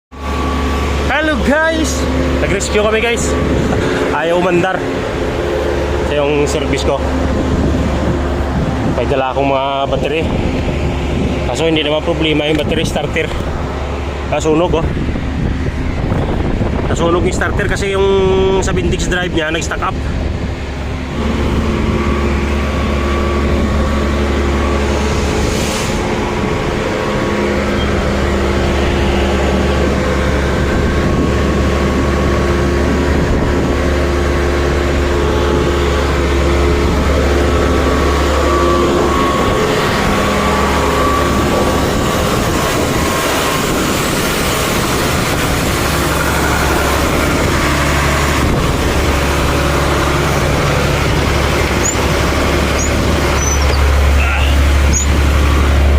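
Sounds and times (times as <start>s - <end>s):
vehicle engine humming: 0.1s - 55.9s.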